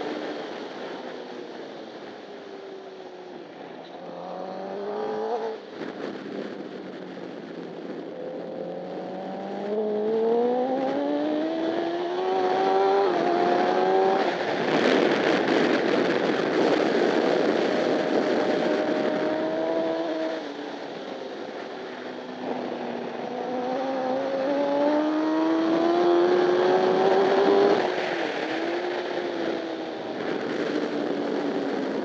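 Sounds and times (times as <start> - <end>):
wind noise at speed: 0.0 - 32.0
motorcycle engine accelerating: 4.0 - 32.0.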